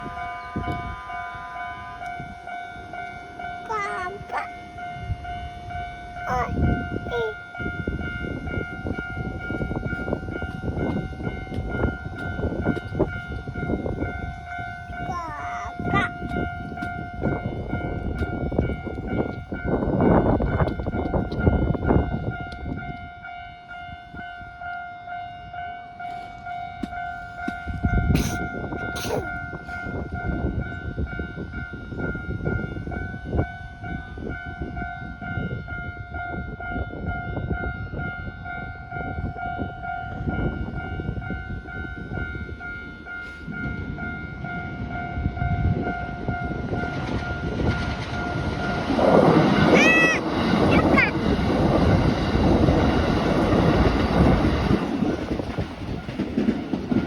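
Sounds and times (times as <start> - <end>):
level-crossing alarm bell: 0.0 - 55.5
train rumbling and clattering: 0.0 - 57.0.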